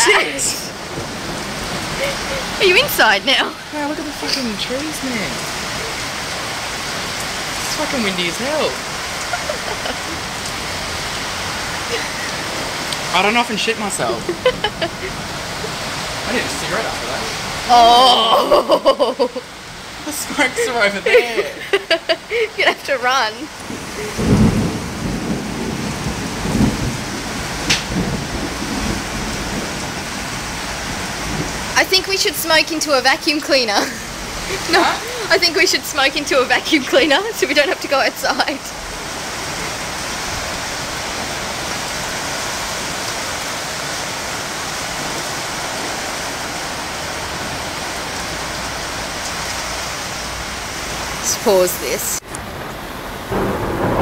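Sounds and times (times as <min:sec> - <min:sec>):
gusting wind: 0:00.0 - 0:54.0
heavy rain: 0:00.0 - 0:54.0
low thunder rumbling: 0:00.4 - 0:20.0, 0:22.1 - 0:54.0.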